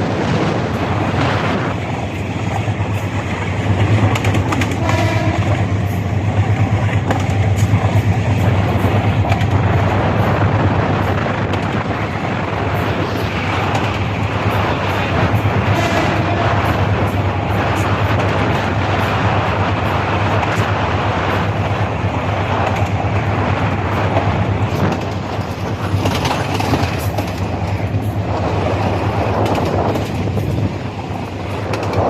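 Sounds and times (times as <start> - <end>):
train rumbling on rails: 0.0 - 32.0
wheels clattering over rail joints: 0.0 - 32.0.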